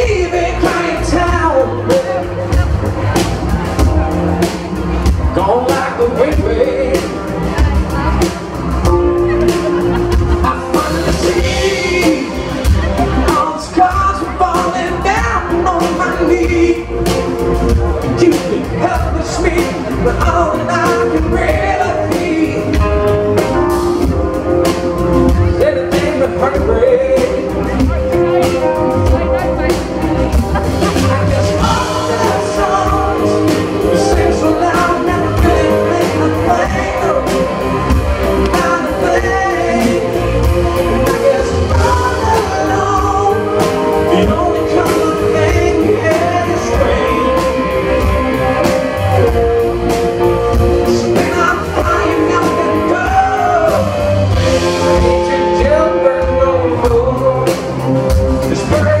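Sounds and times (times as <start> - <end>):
drum kit beat: 0.0 - 59.0
electric guitar: 0.0 - 59.0
man singing: 0.0 - 59.0.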